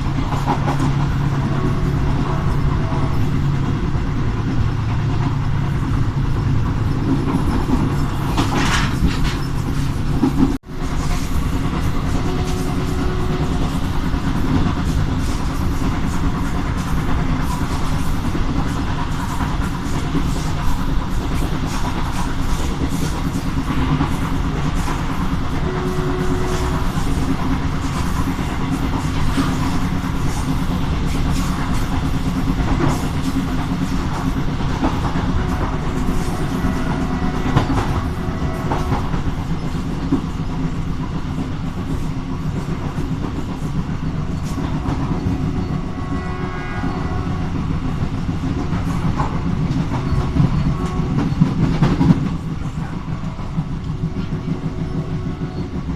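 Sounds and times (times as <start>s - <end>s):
train wheels rumbling on rails: 0.0s - 55.9s
wheels clicking over track: 0.0s - 55.9s.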